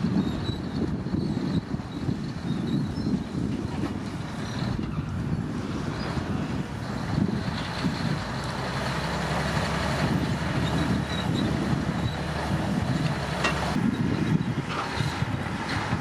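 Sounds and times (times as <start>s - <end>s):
bulldozer diesel engine rumble: 0.0s - 16.0s.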